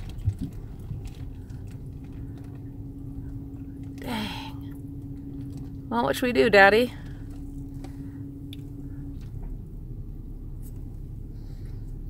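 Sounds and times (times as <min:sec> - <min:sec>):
car engine idling: 0:00.0 - 0:12.0
faint steady hum: 0:00.0 - 0:12.0.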